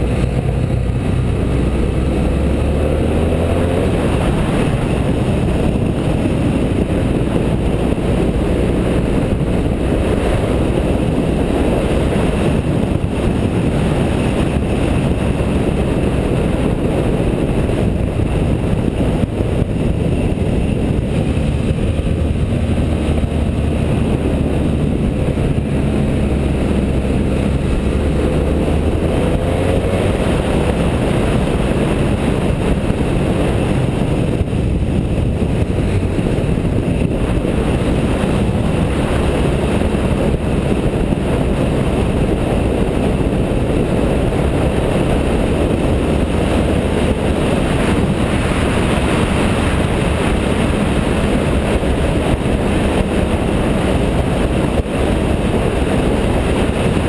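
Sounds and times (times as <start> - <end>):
motorcycle engine running: 0.0 - 57.0
wind rush over microphone: 0.0 - 57.0.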